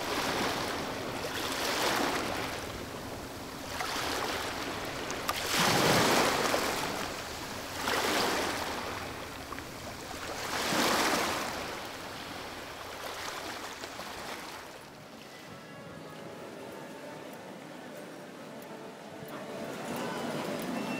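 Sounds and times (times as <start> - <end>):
ocean waves washing ashore: 0.0 - 20.9.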